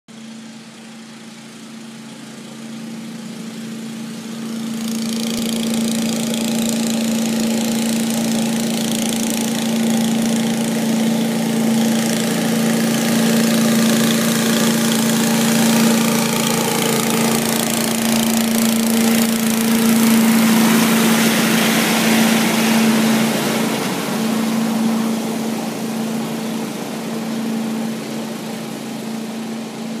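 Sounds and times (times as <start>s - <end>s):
leaf blower running: 0.1s - 30.0s.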